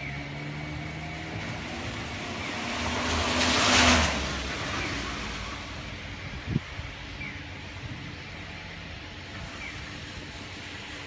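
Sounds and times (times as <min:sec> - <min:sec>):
car tyres hissing on wet road: 0:00.2 - 0:07.4, 0:08.1 - 0:11.0.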